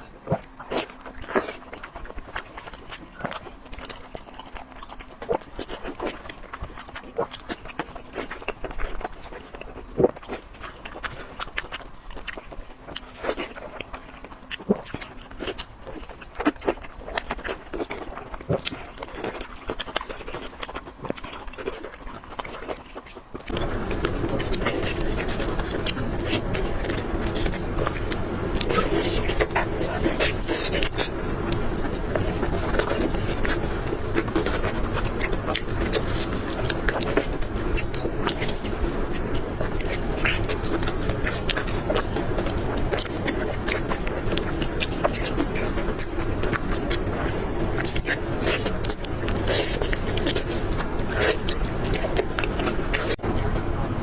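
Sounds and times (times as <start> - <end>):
chewing with crunches: 0.0 - 54.0
steady background noise: 0.0 - 54.0.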